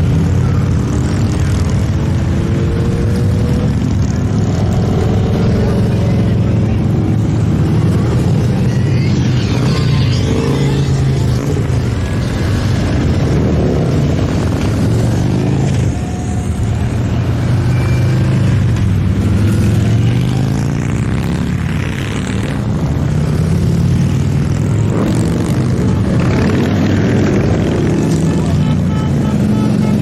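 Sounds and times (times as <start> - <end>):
motorcycles riding past: 0.0 - 30.0.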